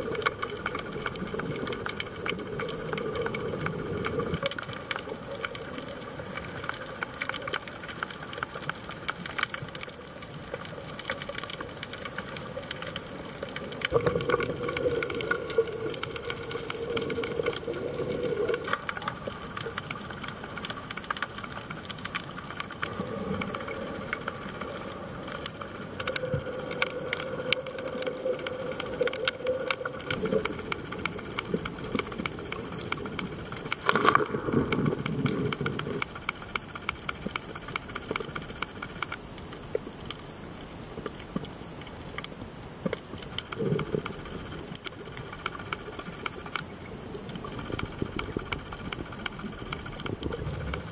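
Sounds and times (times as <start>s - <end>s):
fine clicks and crackles: 0.0s - 50.9s
underwater hiss: 0.0s - 50.9s.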